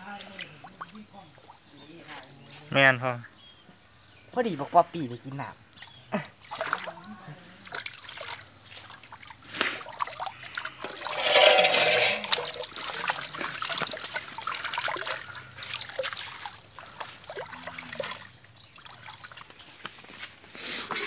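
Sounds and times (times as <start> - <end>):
water splashing and trickling: 0.0 - 2.1, 5.0 - 21.0.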